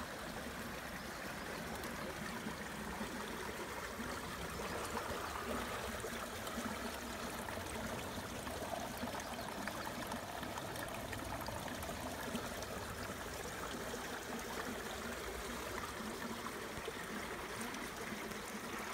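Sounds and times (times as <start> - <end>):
brook trickling: 0.0 - 18.9.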